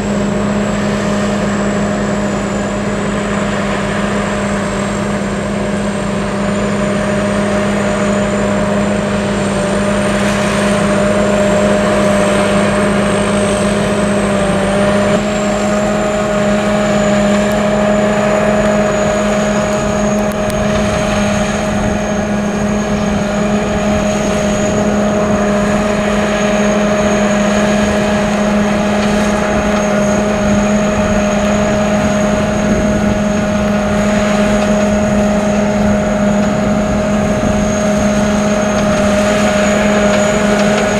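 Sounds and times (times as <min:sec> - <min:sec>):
combine harvester engine drone: 0:00.0 - 0:40.9
high whine: 0:00.0 - 0:40.9.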